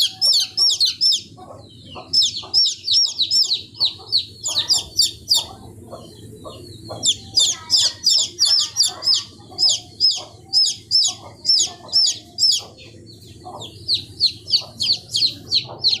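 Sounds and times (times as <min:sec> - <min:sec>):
high sharp bird calls: 0:00.0 - 0:16.0
softer lower bird calls: 0:00.0 - 0:16.0.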